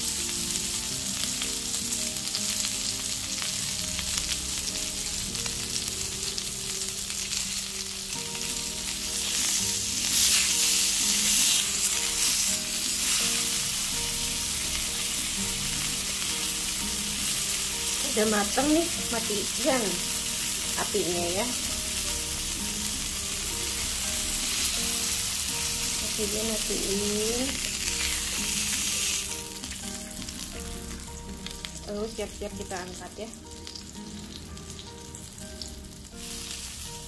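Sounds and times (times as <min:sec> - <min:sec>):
steak sizzling in a pan: 0:00.0 - 0:37.0.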